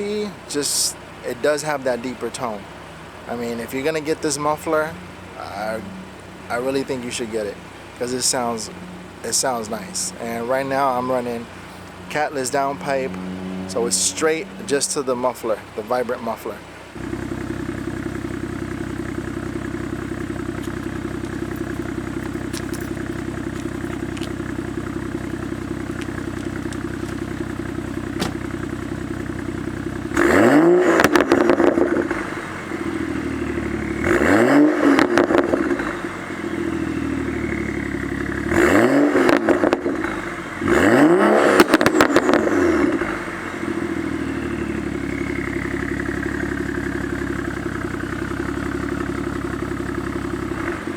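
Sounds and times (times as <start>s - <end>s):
car exhaust idling: 0.0s - 50.9s
engine revving: 0.0s - 50.9s.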